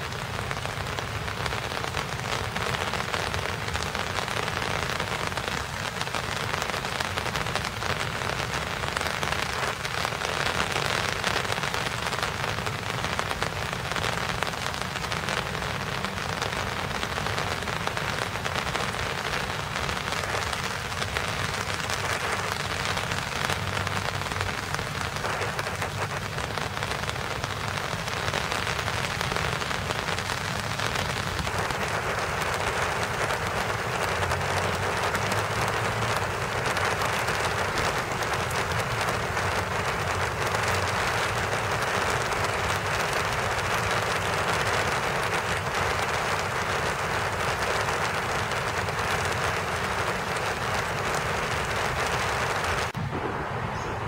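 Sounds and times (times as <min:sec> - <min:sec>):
rain hiss: 0:00.0 - 0:54.0
raindrops ticking on leaves: 0:00.0 - 0:54.0.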